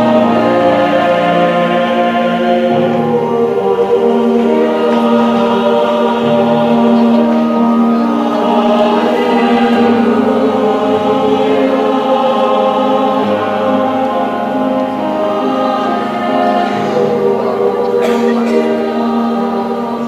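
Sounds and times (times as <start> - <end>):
choir singing in harmony: 0.0 - 20.0.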